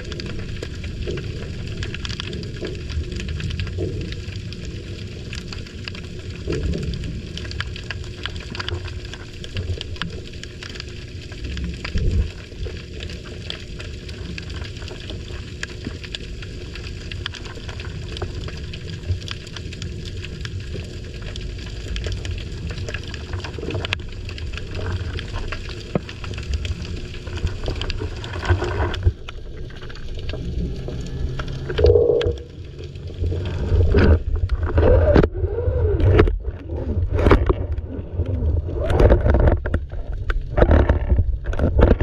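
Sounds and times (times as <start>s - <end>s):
faint crackling clicks underwater: 0.0s - 42.0s
low rumble of moving water: 0.0s - 42.0s.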